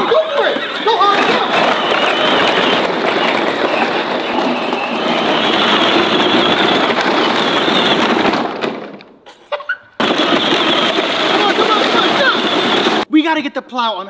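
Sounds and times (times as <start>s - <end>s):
plastic wheels rolling over gravel: 0.0s - 9.1s, 10.0s - 13.1s.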